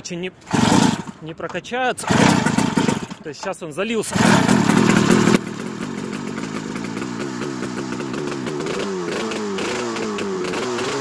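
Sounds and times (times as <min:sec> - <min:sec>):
two-stroke engine idling unevenly: 0:00.5 - 0:01.2, 0:02.0 - 0:03.2, 0:04.0 - 0:11.0.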